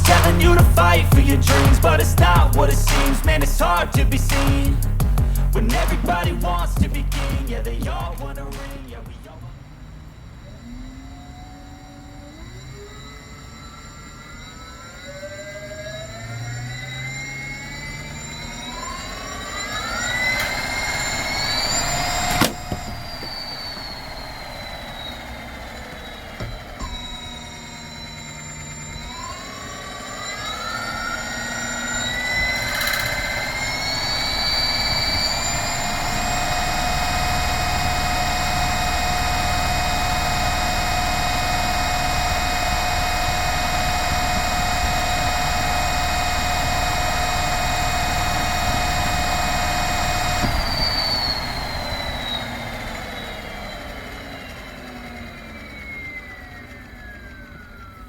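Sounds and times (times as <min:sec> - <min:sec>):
electric motor whine: 0:00.0 - 0:04.9, 0:09.6 - 0:58.0.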